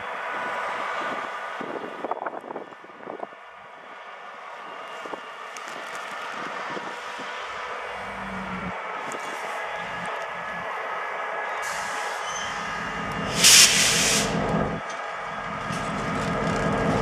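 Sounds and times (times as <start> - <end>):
diesel locomotive engine running: 0.0 - 17.0.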